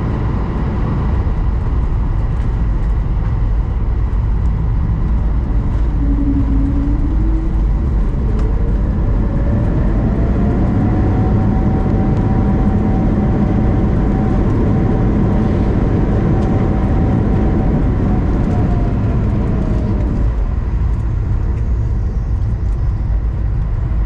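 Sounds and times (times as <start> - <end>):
airplane cabin low rumble: 0.0 - 24.0
jet engine whine: 0.0 - 24.0.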